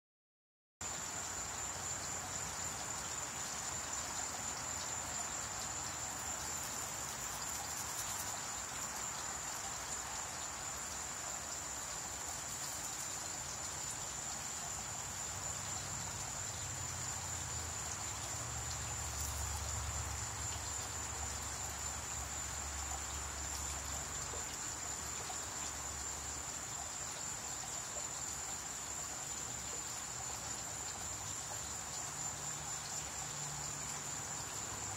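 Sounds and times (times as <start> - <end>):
outdoor background hiss: 0.8 - 34.9
shrill insect chorus: 0.8 - 34.9.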